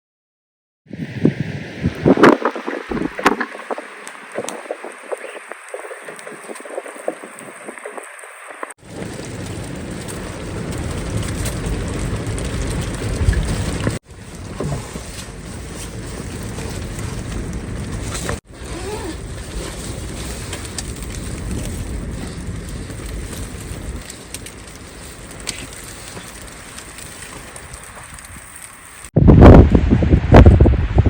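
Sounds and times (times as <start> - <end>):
wind buffeting microphone: 0.9 - 31.0.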